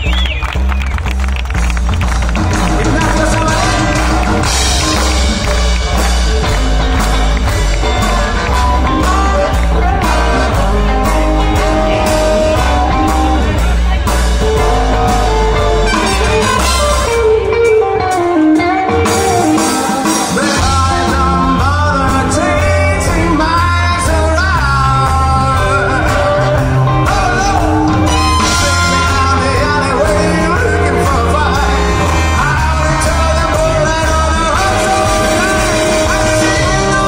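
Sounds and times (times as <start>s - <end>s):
big band playing rock and roll: 0.0s - 37.0s
upright bass: 0.0s - 37.0s.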